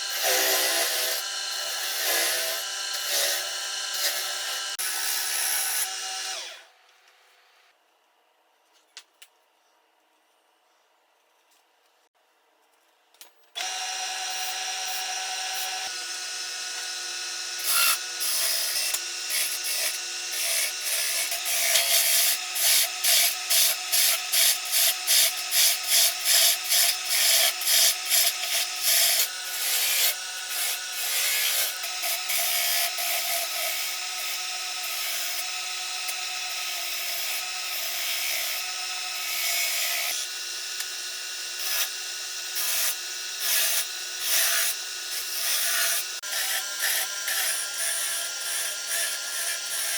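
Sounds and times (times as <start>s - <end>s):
power tool running: 0.0s - 6.9s, 13.6s - 49.9s.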